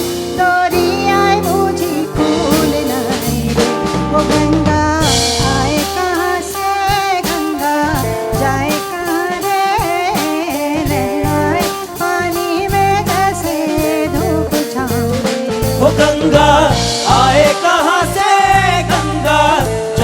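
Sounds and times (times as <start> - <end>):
bass guitar: 0.0 - 20.0
drum kit beat: 0.0 - 20.0
melodic lead line with slides: 0.0 - 20.0.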